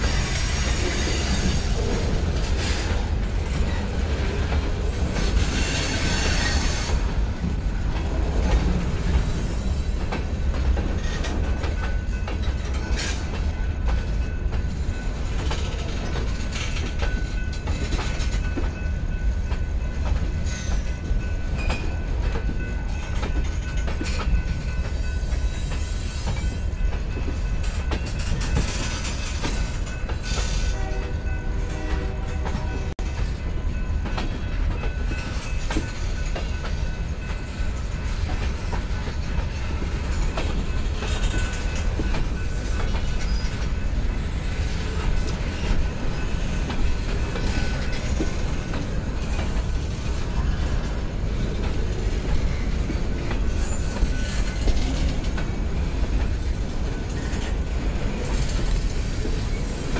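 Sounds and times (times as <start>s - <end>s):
freight train rumbling: 0.0s - 59.9s.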